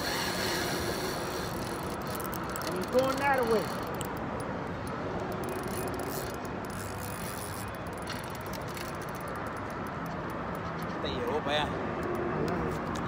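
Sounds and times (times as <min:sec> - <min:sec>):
fishing reel clicking: 0:00.0 - 0:10.6.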